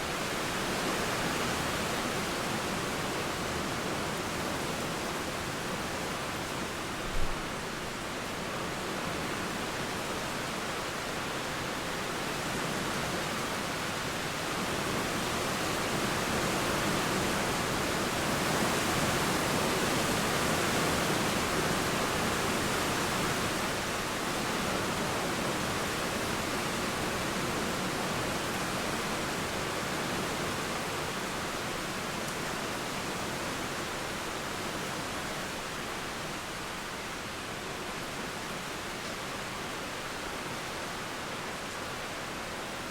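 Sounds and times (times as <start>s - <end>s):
river water flowing: 0.0s - 42.9s
steady rain: 0.0s - 42.9s.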